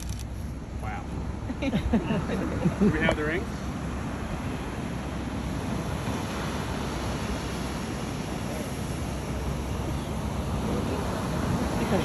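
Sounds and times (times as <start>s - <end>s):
wind: 0.0s - 12.0s
surf: 0.6s - 12.0s.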